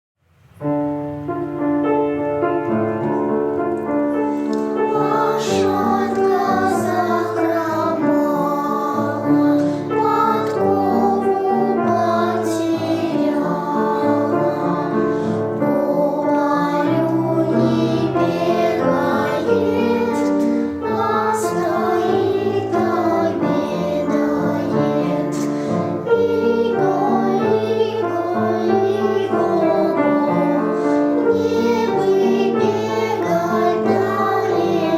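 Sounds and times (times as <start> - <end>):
piano accompaniment: 0.2 - 34.9
person singing children's song: 4.3 - 34.9.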